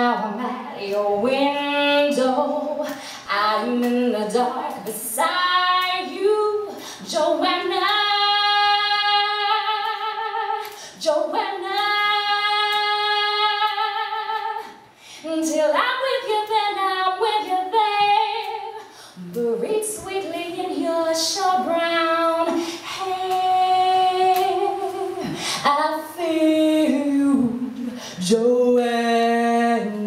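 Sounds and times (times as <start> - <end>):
woman singing unaccompanied: 0.0 - 30.0.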